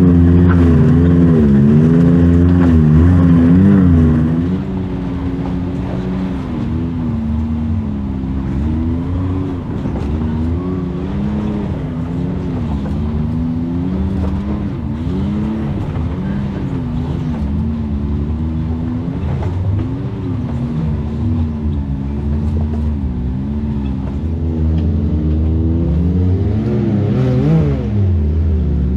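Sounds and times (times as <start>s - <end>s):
utility vehicle engine revving: 0.0s - 28.9s.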